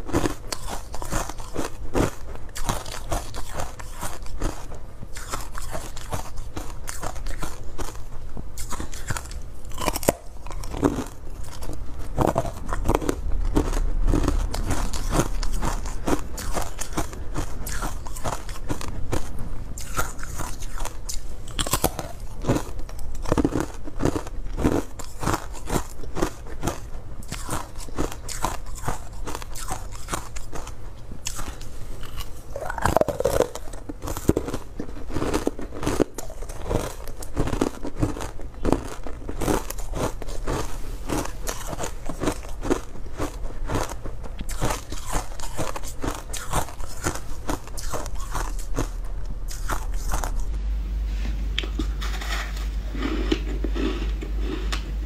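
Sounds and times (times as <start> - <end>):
person crunching ice: 0.0 - 50.5.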